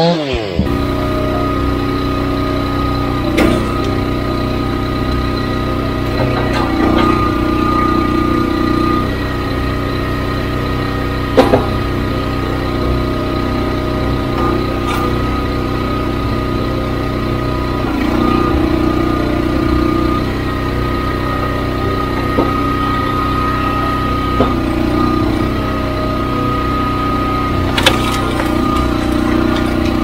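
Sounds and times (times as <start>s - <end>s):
log splitter engine running: 0.0s - 30.0s.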